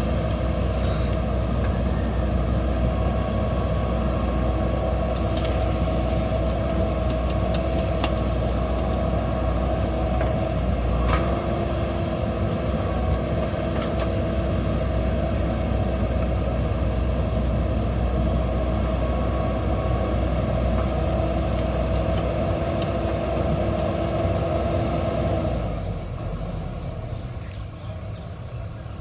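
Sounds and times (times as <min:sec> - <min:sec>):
heavy machinery diesel engine running: 0:00.0 - 0:29.0.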